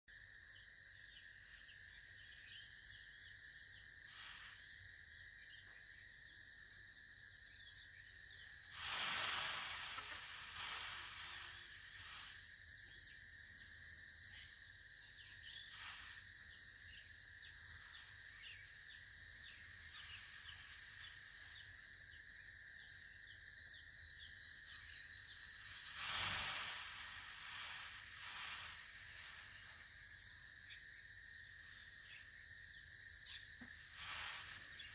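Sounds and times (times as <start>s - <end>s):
insects chirping: 0.1s - 34.9s.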